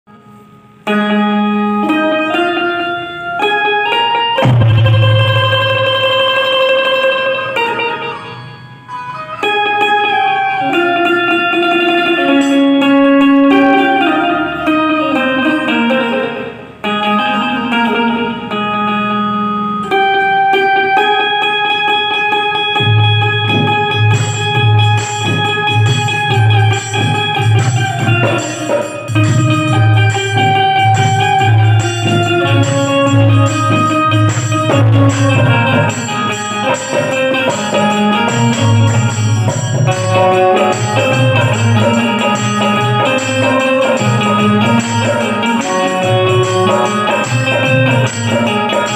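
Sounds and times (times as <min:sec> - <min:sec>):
keyed banjo melody: 0:00.1 - 0:48.9.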